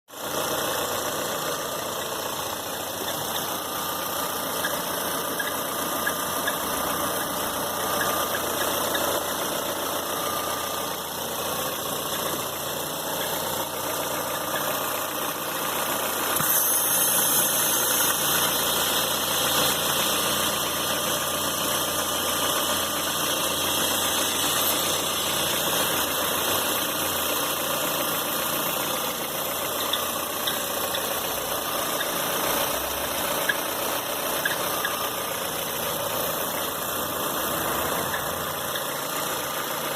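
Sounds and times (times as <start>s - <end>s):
car engine running: 0.1s - 39.9s.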